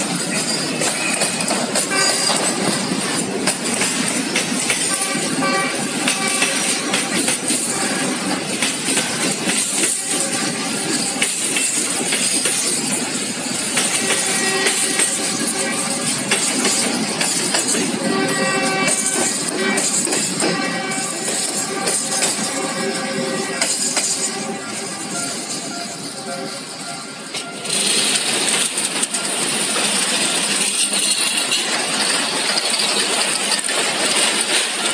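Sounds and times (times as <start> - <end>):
train wheel clicks: 0.0 - 34.9
train wheels rolling on rails: 0.0 - 34.9.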